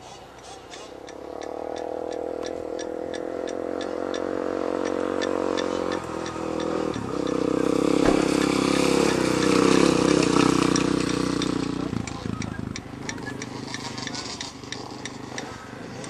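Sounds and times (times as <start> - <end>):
regular ticking: 0.0 - 16.0
vehicle engine running: 0.0 - 16.0.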